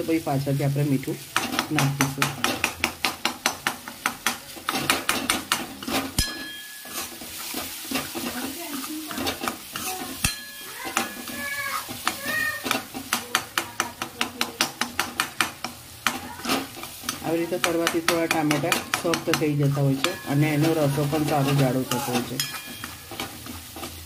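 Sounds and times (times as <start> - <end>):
steady sizzle: 0.0 - 24.0
ladle knocking on pan: 1.3 - 7.0, 9.1 - 24.0
metal ladle scraping a pan: 3.8 - 24.0.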